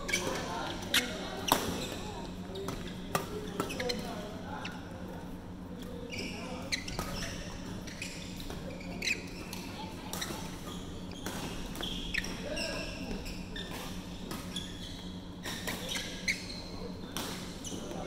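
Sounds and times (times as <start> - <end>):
sneakers squeaking: 0.0 - 18.0.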